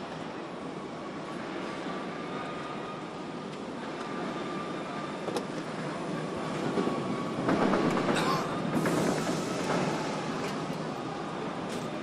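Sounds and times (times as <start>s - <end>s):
factory machinery noise: 0.0s - 12.0s.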